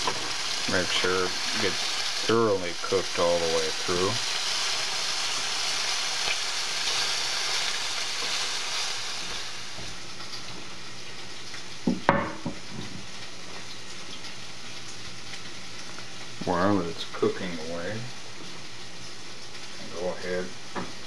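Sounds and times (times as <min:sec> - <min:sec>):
chicken sizzling in a skillet: 0:00.0 - 0:21.0.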